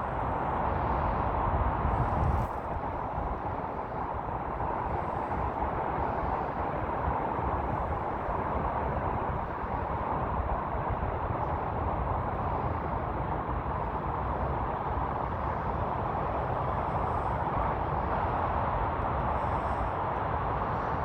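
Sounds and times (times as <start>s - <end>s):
steady rushing outdoor noise: 0.0s - 21.0s.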